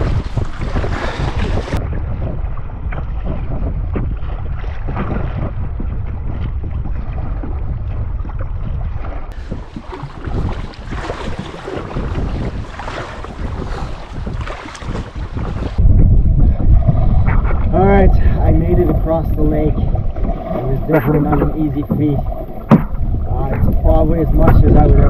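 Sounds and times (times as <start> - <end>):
waves splashing against canoe: 0.0 - 15.8, 16.4 - 25.0
wind buffeting microphone: 0.0 - 25.0.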